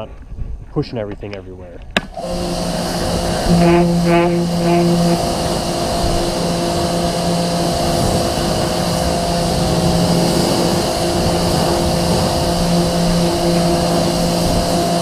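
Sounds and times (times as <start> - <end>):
pressure washer motor hum: 2.0 - 15.0
water jet spraying: 2.0 - 15.0.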